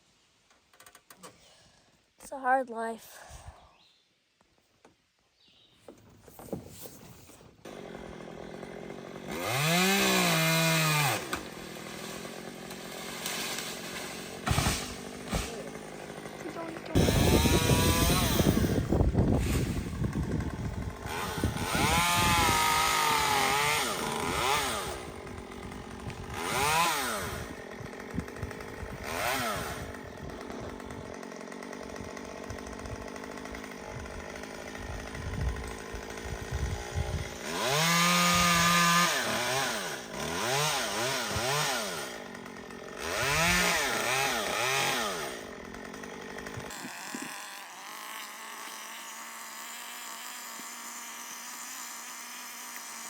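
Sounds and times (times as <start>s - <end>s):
chainsaw revving and idling: 7.6s - 53.0s.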